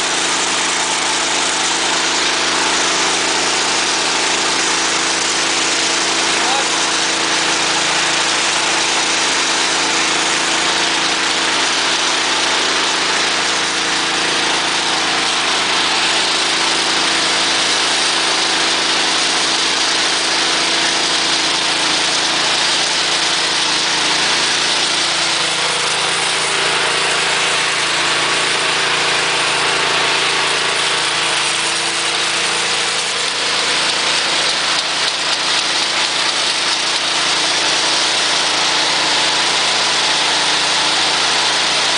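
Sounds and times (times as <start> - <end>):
small petrol engine under load: 0.0 - 41.9.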